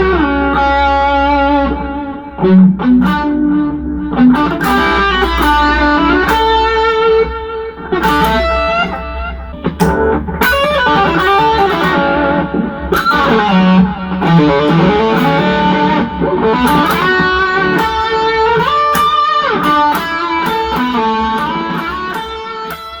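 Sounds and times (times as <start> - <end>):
distorted electric guitar lead: 0.0 - 23.0.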